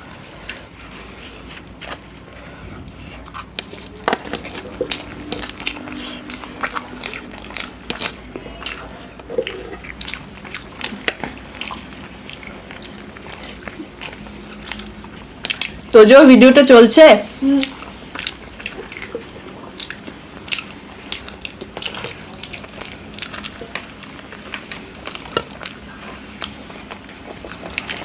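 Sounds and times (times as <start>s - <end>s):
people chewing and crunching: 0.0s - 16.1s, 17.3s - 28.0s.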